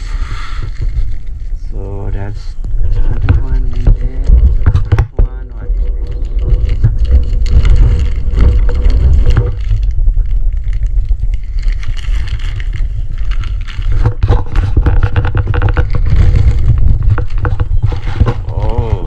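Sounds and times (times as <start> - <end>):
low rumble on the microphone: 0.0 - 19.0
tissue paper rustling and crinkling: 0.0 - 19.0.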